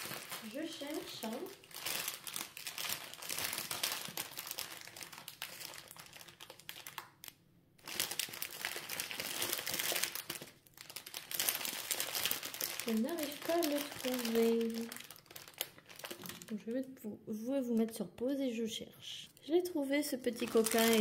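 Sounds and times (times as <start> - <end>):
plastic bags crinkling: 0.0 - 16.7, 20.2 - 21.0.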